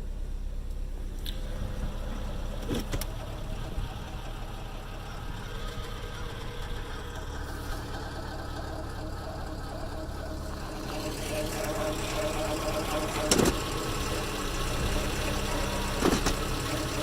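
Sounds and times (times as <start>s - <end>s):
car engine idling with chugging: 0.0s - 17.0s.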